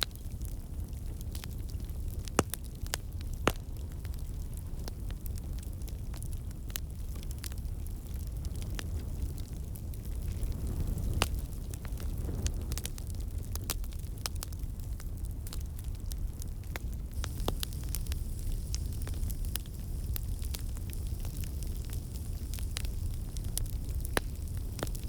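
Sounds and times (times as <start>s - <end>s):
fire crackling and popping: 0.0s - 25.0s.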